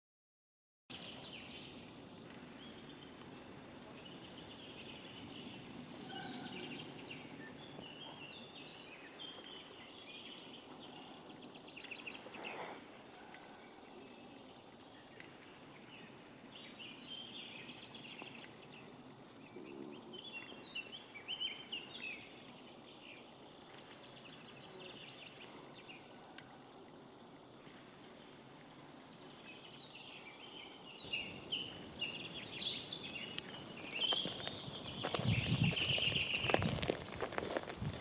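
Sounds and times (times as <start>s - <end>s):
faint background hiss: 0.9s - 38.0s
small birds chirping: 0.9s - 38.0s.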